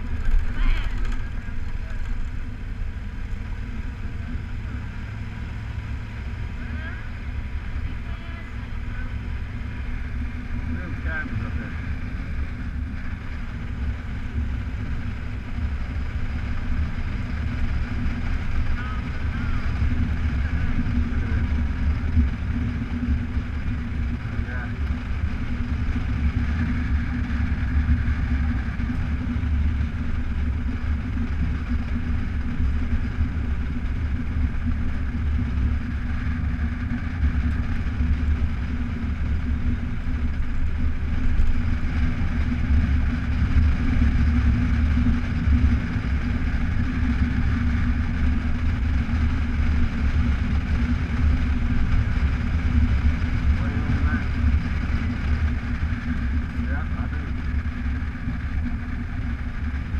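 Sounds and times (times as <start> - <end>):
motorcycle running: 0.0 - 59.9
wind and road noise: 0.0 - 59.9.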